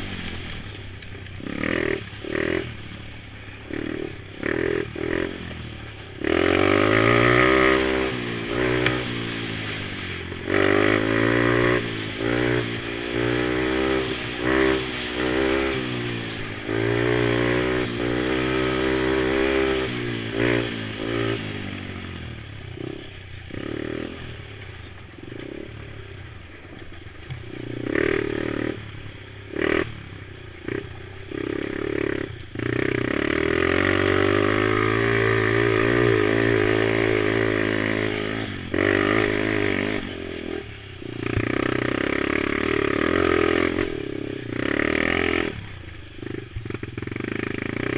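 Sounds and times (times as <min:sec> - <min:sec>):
quad engines revving: 0:01.3 - 0:24.3, 0:30.6 - 0:47.9.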